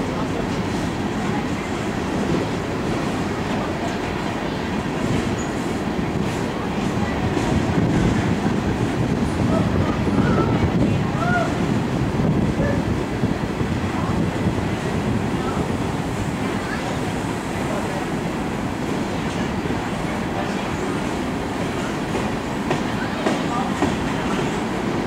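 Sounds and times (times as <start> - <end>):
steel train wheels rumbling on rail: 0.0 - 25.0.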